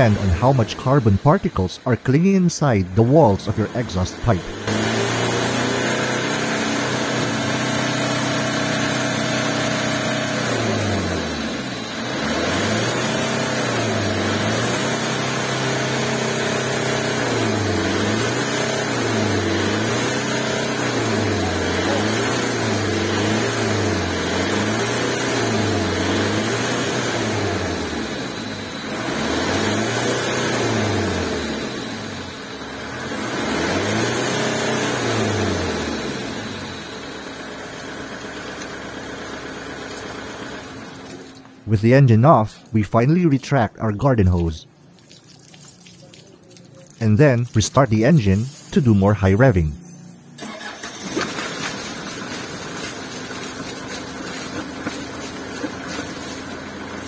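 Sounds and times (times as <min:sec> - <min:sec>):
diesel engine revving: 0:00.0 - 0:44.7, 0:47.0 - 0:57.0
water spraying from tailpipe: 0:02.9 - 0:41.4, 0:44.4 - 0:49.7, 0:50.4 - 0:57.0.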